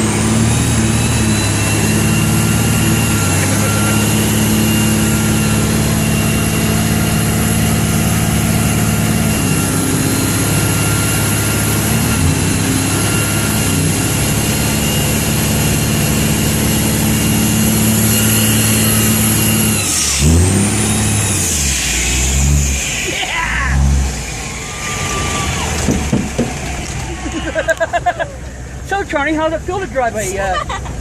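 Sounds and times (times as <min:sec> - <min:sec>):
high whine: 0:00.0 - 0:30.1
truck engine revving high: 0:00.0 - 0:31.0.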